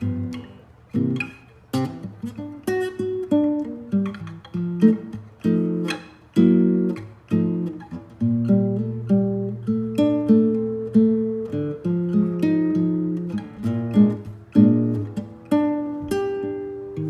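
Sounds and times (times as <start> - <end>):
guitar picking notes and chords: 0.0 - 17.0.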